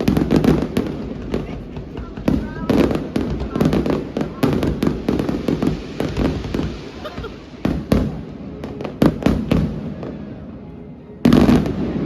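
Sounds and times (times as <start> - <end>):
fireworks bangs and crackles: 0.0 - 10.6, 11.2 - 12.0.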